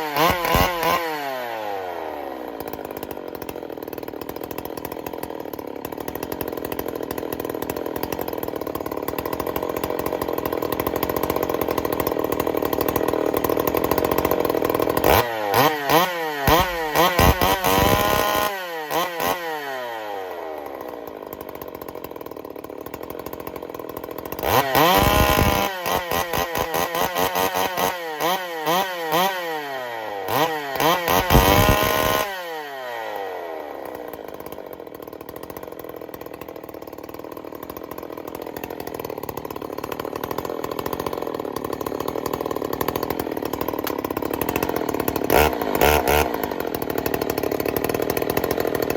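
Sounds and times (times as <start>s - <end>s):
chainsaw engine revving and idling: 0.0s - 48.9s.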